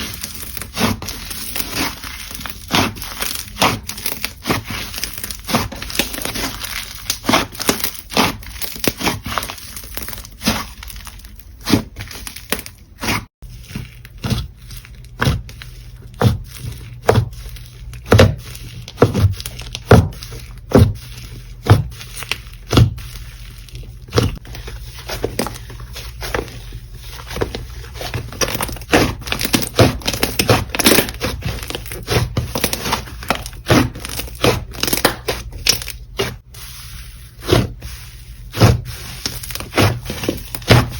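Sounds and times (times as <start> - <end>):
slime crackling and popping: 0.0 - 26.6, 27.2 - 36.4.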